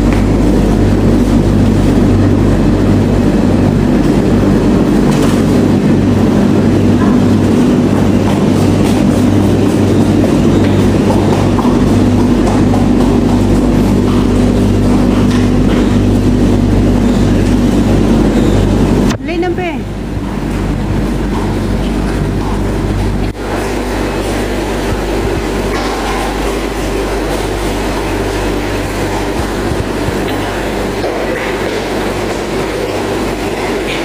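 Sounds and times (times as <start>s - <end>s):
low throb of turning drums: 0.0s - 34.0s
tumble dryers humming: 0.0s - 34.0s.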